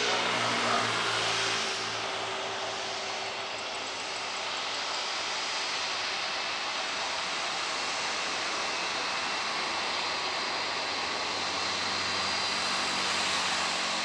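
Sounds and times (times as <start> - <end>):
jet engines at low power: 0.0 - 14.0.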